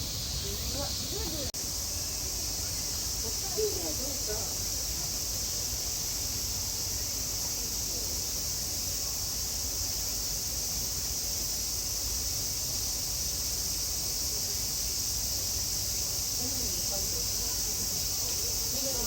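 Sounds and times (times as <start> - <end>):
cicadas chorus: 0.0 - 19.0.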